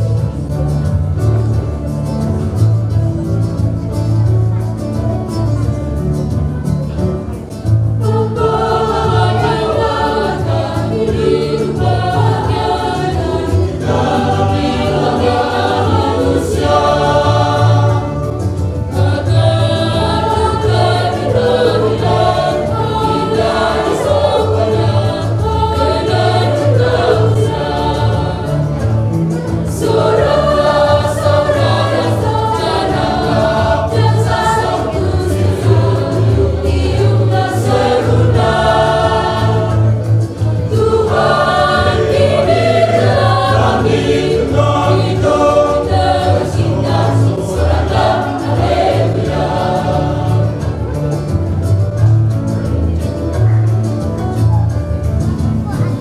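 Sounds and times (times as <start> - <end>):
instrumental accompaniment with bass: 0.0 - 56.0
choir singing a hymn: 7.7 - 53.1.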